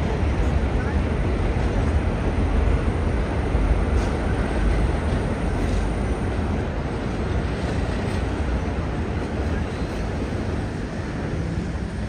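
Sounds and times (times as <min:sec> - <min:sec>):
subway train rumbling on tracks: 0:00.0 - 0:12.0.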